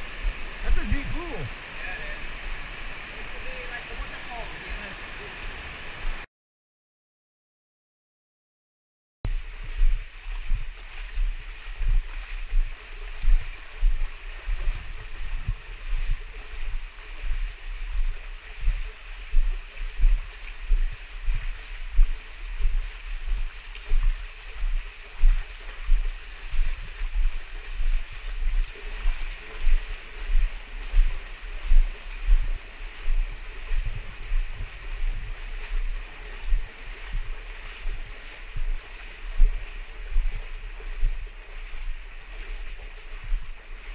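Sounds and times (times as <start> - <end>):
person wading through water: 0.0 - 6.2, 9.3 - 43.9
flowing water rushing: 0.0 - 6.3, 9.3 - 43.9.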